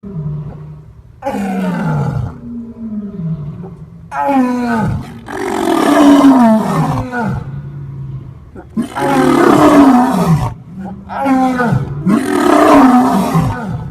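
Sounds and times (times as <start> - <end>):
lion roaring: 0.0 - 13.9.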